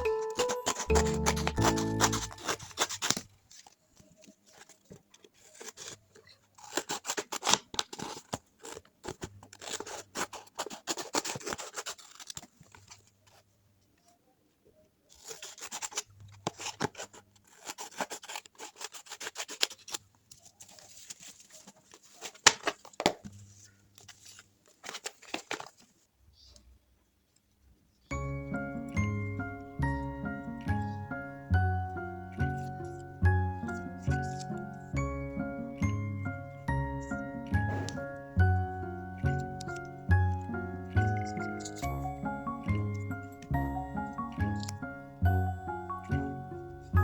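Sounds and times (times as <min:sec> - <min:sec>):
packing materials rustling: 0:00.0 - 0:13.5, 0:15.1 - 0:26.1, 0:32.0 - 0:47.0.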